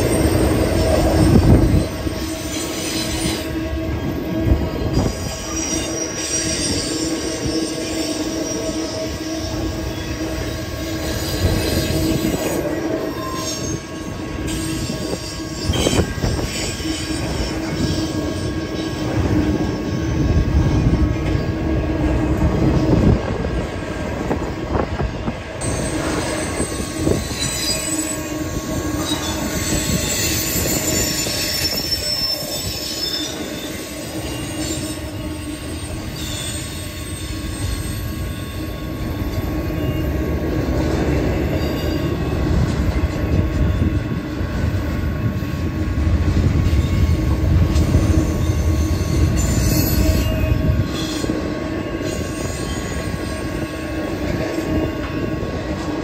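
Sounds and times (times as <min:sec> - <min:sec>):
high wheel squeal: 0:00.0 - 0:21.5, 0:25.6 - 0:44.2, 0:46.6 - 0:55.8
freight train wheels rumbling: 0:00.0 - 0:56.0.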